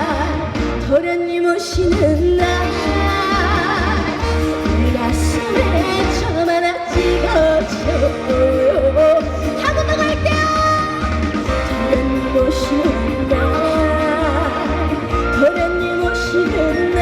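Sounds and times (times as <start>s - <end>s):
woman singing with vibrato: 0.0s - 17.0s
backing track with bass beat: 1.8s - 17.0s.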